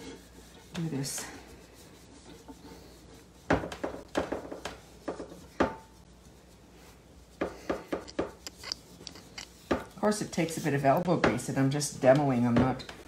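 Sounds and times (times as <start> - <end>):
cloth scrubbing metal pot: 0.0 - 11.7.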